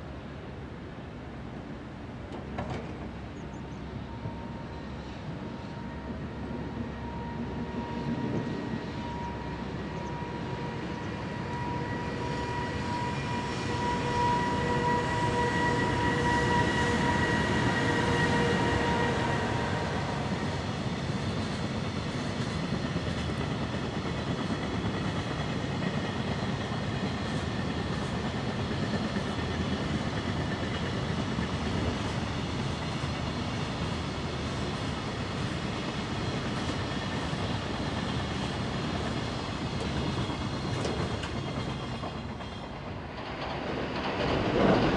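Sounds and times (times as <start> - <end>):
electric locomotive motor whine: 1.7 - 44.9.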